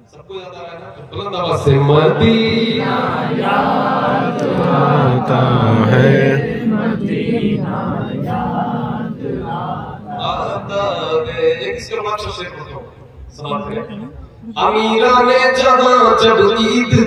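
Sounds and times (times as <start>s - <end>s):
man chanting through loudspeaker: 0.0s - 13.9s, 14.6s - 17.0s.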